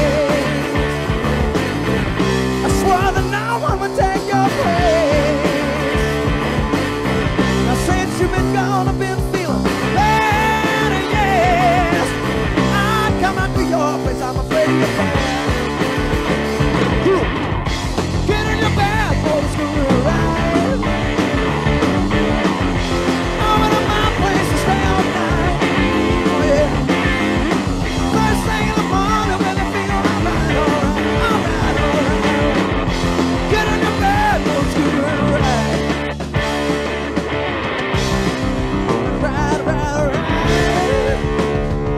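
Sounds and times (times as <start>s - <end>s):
man singing: 0.0s - 1.4s, 2.6s - 6.6s, 7.4s - 16.0s, 16.7s - 21.2s, 23.1s - 36.1s, 38.9s - 41.8s
bending electric guitar lead: 0.0s - 41.9s
hard rock band playing: 0.0s - 41.9s.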